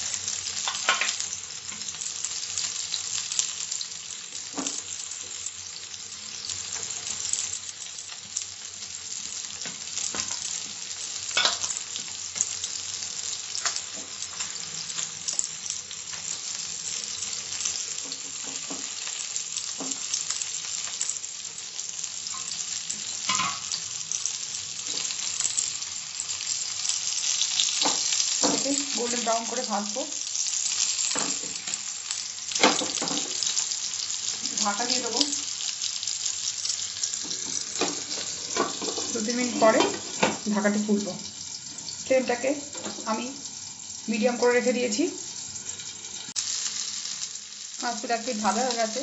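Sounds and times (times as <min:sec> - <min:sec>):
fish sizzling in oil: 0:00.0 - 0:49.0.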